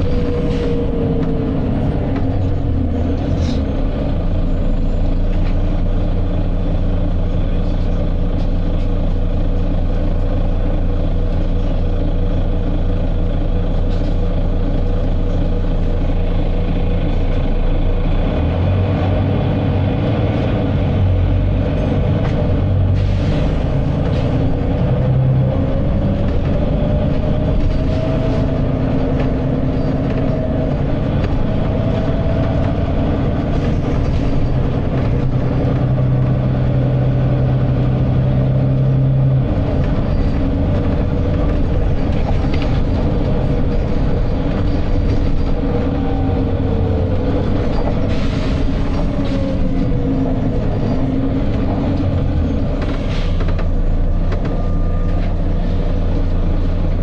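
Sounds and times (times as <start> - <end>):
bus diesel engine whining: 0.0 - 57.0.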